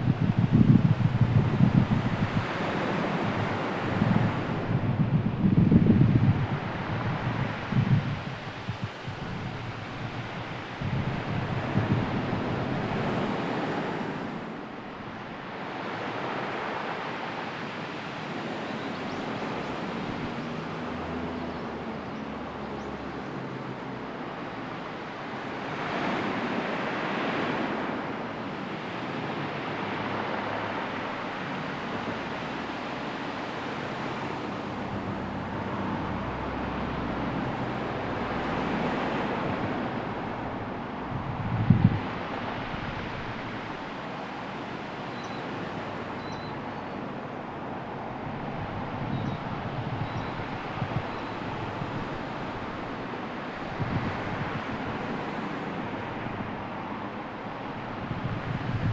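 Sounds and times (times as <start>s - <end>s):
sea waves washing ashore: 0.0s - 58.9s
wind: 0.0s - 58.9s.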